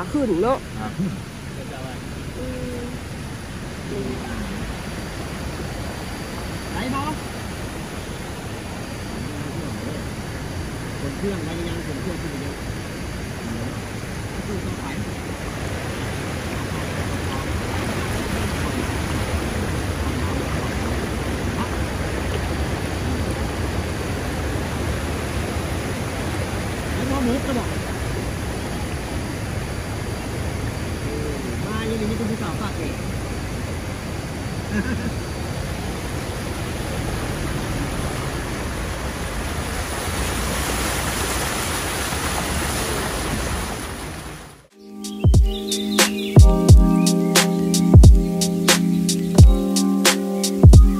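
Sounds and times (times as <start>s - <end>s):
low vehicle rumble: 0.0s - 41.7s
floodwater rushing: 0.0s - 44.7s
wind: 0.0s - 50.9s.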